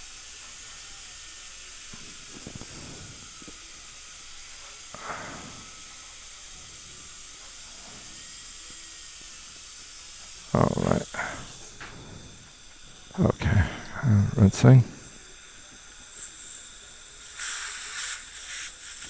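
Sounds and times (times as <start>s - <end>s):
high-pitched dental suction hiss: 0.0s - 19.0s.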